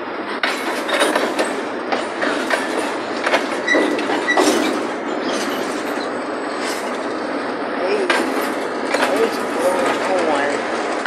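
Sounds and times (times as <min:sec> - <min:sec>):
rolling rumble: 0:00.0 - 0:11.0
train wheels clattering over rails: 0:00.0 - 0:11.0
clanks and knocks: 0:00.4 - 0:07.1, 0:08.0 - 0:11.0.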